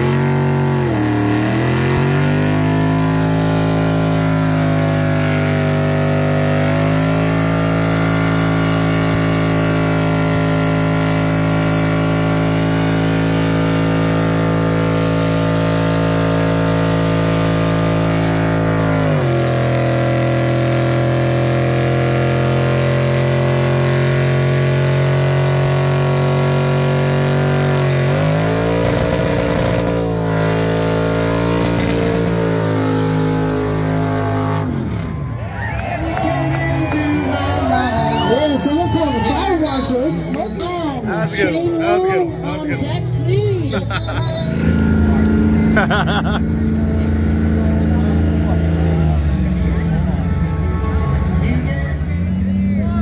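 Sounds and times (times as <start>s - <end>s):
truck engine revving high: 0.0s - 53.0s.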